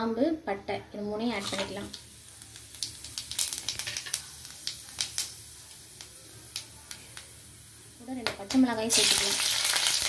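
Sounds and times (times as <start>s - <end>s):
spices sizzling and popping in oil: 1.3s - 10.0s.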